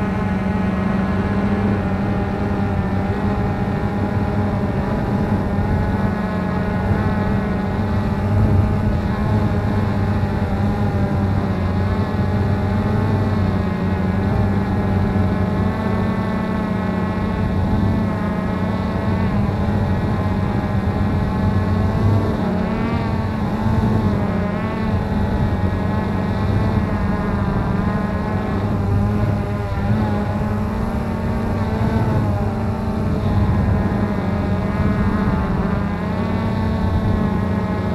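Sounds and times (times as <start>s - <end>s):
drone propellers buzzing: 0.0s - 37.9s.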